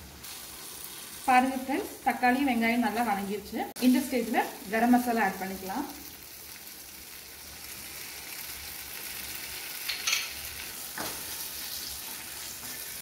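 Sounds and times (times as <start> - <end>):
onions frying sizzle: 0.0 - 13.0.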